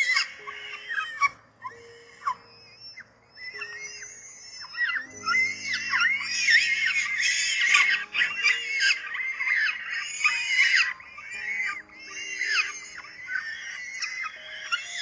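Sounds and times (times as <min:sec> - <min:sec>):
birds chirping and squealing: 0:00.0 - 0:15.0
faint low droning music: 0:00.0 - 0:15.0.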